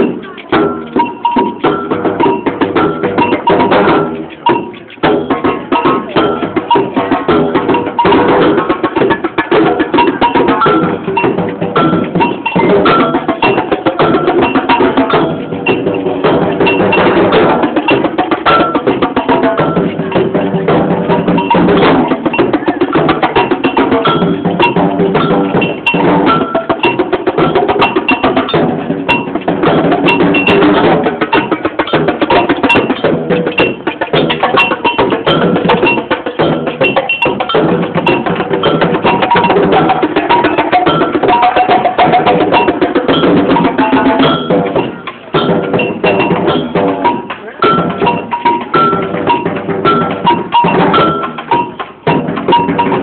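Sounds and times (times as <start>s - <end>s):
samba percussion band drumming: 0.0s - 53.0s.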